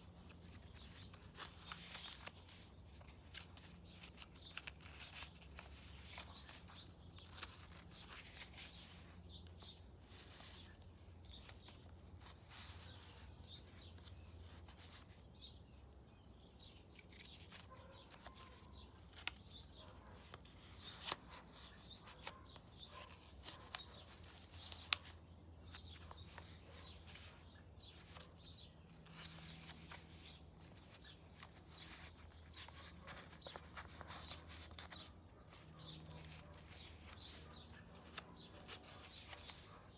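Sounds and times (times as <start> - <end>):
paper rustling and crinkling: 0.0 - 15.2, 16.8 - 39.9.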